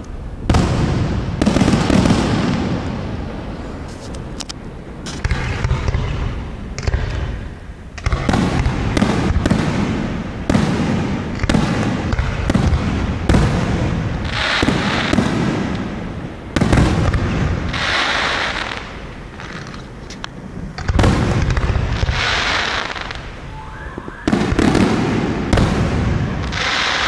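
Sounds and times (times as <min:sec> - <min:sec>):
fireworks booming: 0:00.0 - 0:27.0
fireworks crackling: 0:00.0 - 0:27.0.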